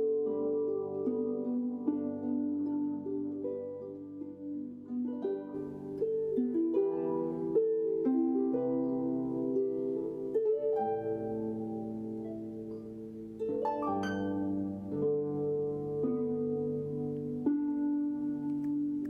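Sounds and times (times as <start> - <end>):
harp playing: 0.0 - 19.0.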